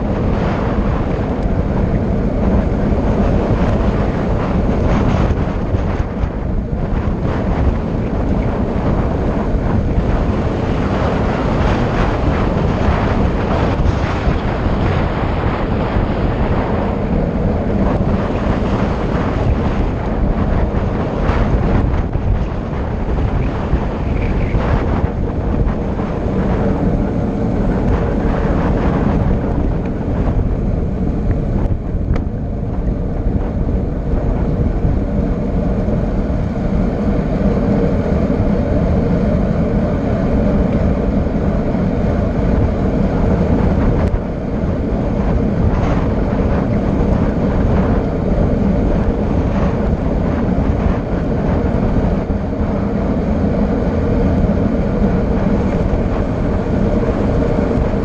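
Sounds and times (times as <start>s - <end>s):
tyres rumbling on pavement: 0.0s - 58.0s
wind buffeting microphone: 0.0s - 58.0s.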